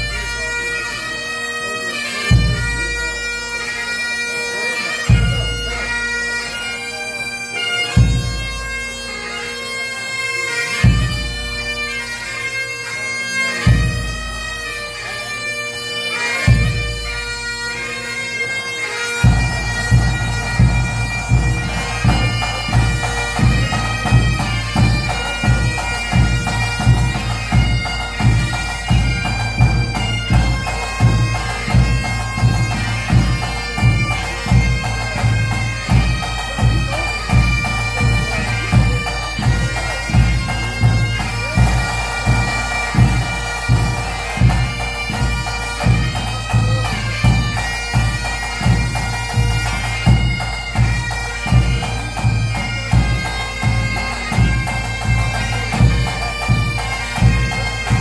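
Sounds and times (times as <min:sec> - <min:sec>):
bagpipes playing: 0:00.0 - 0:58.0.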